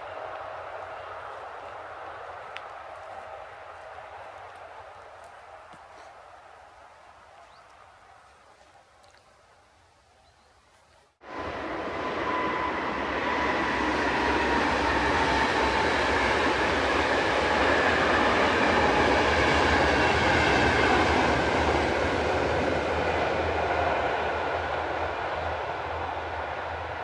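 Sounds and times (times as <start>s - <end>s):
train wheels rumbling on rails: 0.0s - 6.1s, 11.2s - 27.0s.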